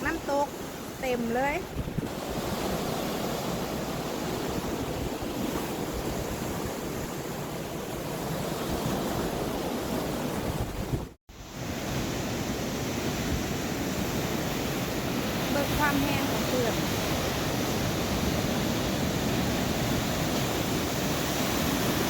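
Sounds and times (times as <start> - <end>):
surf rushing and breaking: 0.0 - 22.0
wind buffeting microphone: 0.0 - 22.0.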